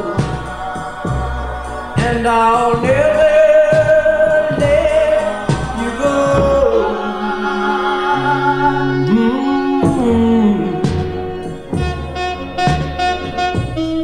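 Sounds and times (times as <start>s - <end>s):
vocal group singing in harmony: 0.0s - 11.9s
slow backing beat: 0.0s - 14.0s.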